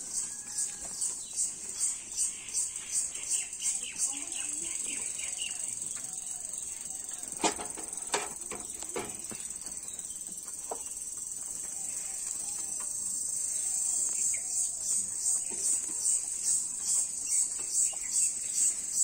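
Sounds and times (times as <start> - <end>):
insect chirring: 0.0 - 19.0.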